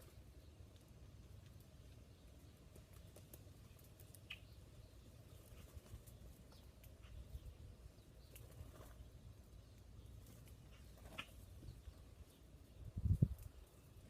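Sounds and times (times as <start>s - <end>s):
faint bird chirps: 2.0s - 14.0s.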